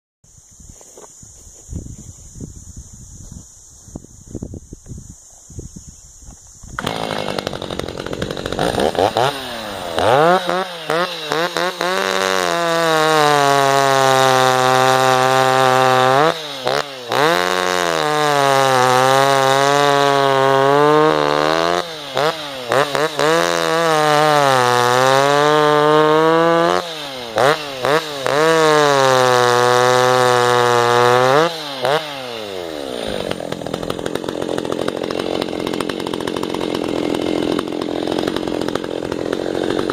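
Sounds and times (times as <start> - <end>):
chainsaw revving and idling: 6.8 - 39.9.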